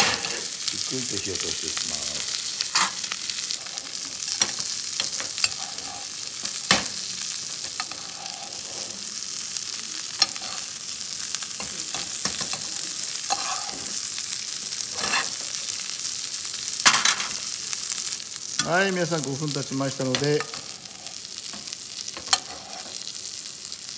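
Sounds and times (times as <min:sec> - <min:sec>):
fish sizzling in a frying pan: 0:00.0 - 0:23.9.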